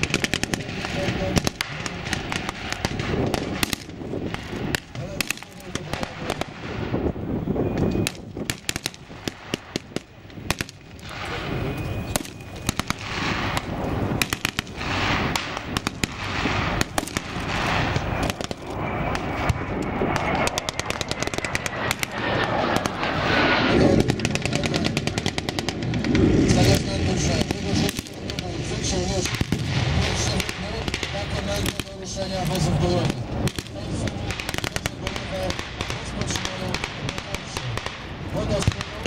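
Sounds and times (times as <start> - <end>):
gunfire shots and bursts: 0.0 - 6.9, 8.0 - 11.4, 12.1 - 23.1, 23.9 - 39.0.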